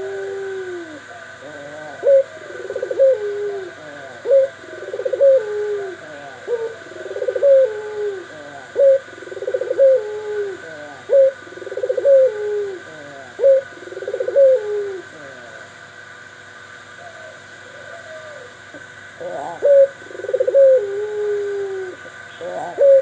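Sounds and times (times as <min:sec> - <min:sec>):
doves cooing: 0:00.0 - 0:23.0.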